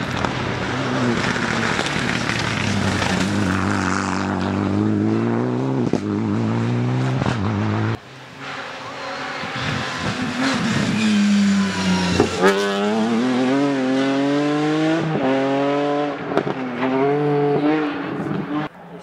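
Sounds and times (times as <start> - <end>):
rally car engine accelerating: 0.0 - 18.7.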